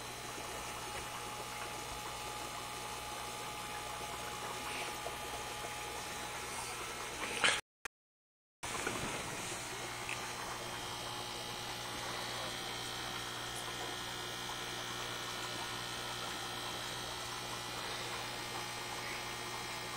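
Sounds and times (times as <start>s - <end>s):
aquarium pump motor humming: 0.0s - 7.6s, 8.6s - 19.9s
faint moving water: 0.0s - 7.6s, 8.6s - 19.9s.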